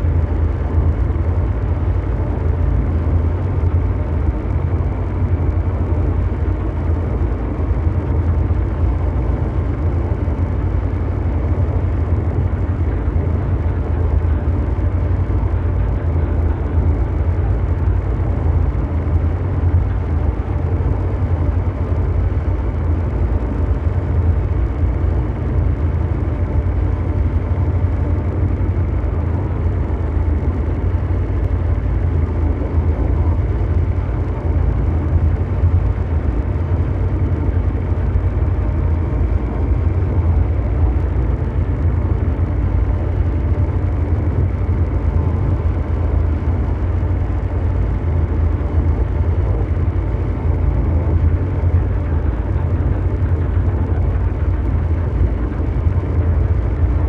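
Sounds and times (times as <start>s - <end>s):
low mechanical drone: 0.0s - 57.0s.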